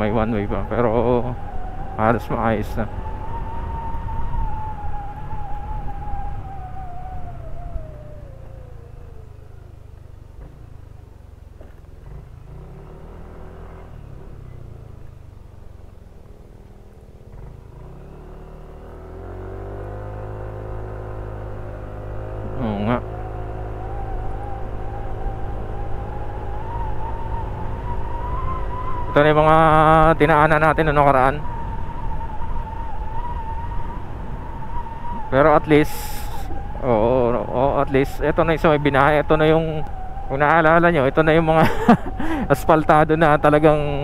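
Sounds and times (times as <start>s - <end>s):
scooter engine whine: 0.0s - 44.0s.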